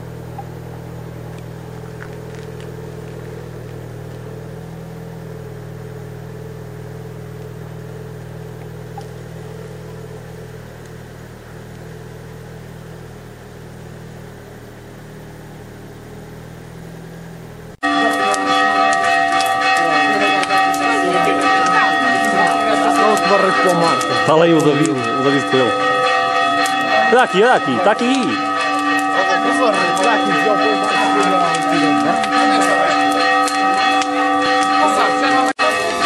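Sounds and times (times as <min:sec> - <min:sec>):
church bells ringing: 0:00.0 - 0:36.0
vehicle engine humming: 0:00.0 - 0:36.0.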